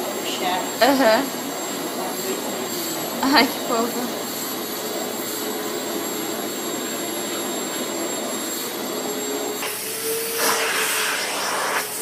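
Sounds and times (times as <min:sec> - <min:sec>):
vacuum cleaner whining: 0:00.0 - 0:12.0
vacuum with bright hiss: 0:00.0 - 0:12.0.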